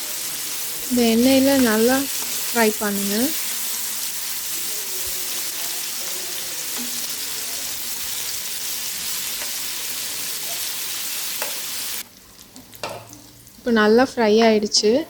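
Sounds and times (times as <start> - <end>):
chicken sizzling in oil: 0.0 - 13.7.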